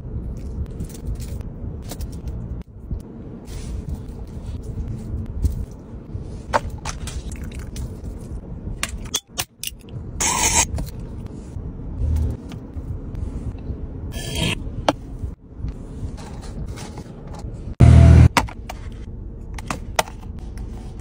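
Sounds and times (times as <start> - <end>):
low rumble: 0.0 - 9.1, 9.8 - 21.0.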